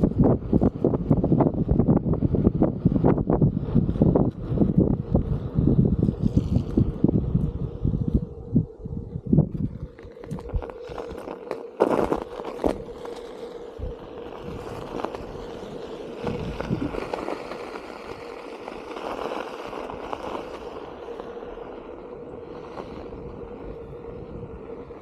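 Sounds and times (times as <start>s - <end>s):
electric hub motor whining: 0.0s - 25.0s.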